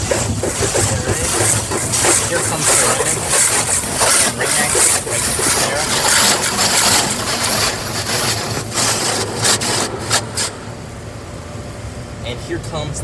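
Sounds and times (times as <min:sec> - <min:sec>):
sharp water splashes: 0:00.0 - 0:10.7
car wash spray hiss: 0:00.0 - 0:11.1.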